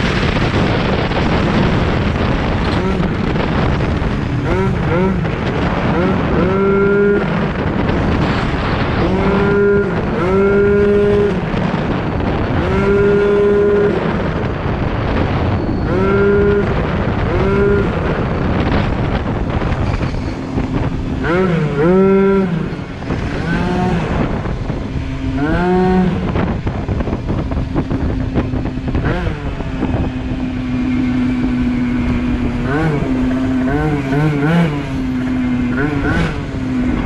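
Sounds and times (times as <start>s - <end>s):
scooter engine revving: 0.0s - 37.0s
wind and road noise: 0.0s - 37.0s.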